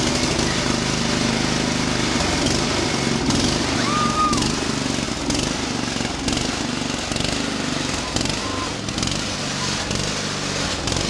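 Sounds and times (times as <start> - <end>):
machine engine running: 0.0 - 11.0.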